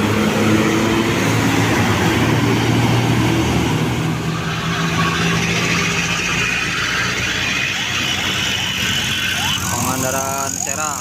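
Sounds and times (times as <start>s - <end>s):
bus diesel engine passing: 0.0s - 11.0s
tyre and road noise: 0.0s - 11.0s.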